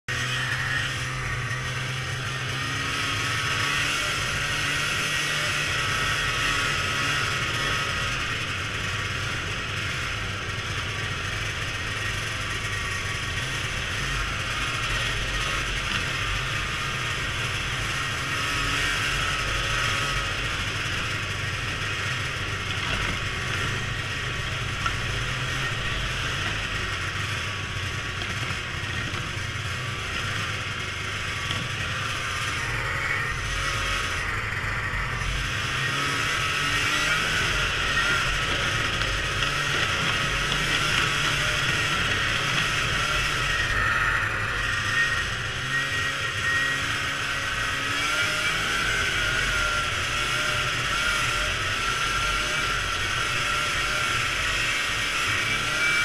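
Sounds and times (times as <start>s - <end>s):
snowmobile engine and track running: 0.0s - 56.0s.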